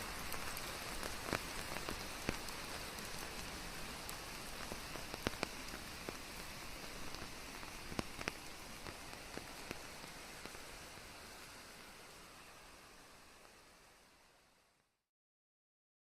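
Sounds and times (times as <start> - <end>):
raindrops ticking on a surface: 0.0 - 14.4
rain hiss: 0.0 - 15.1.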